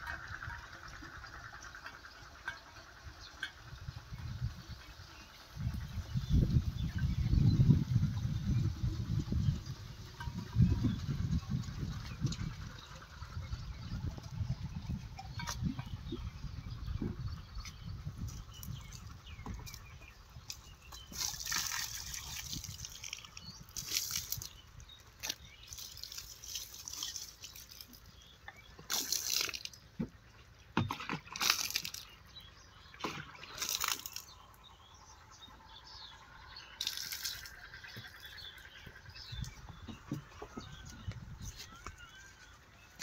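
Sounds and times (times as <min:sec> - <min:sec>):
water pouring in spurts: 0:00.0 - 0:35.0, 0:36.5 - 0:43.0.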